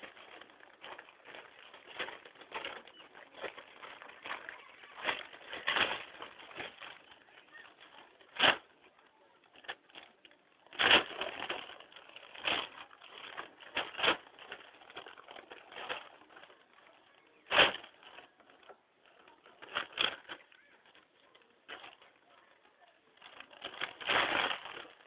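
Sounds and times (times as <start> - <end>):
newspaper rustling: 0.0 - 8.7, 9.5 - 25.0.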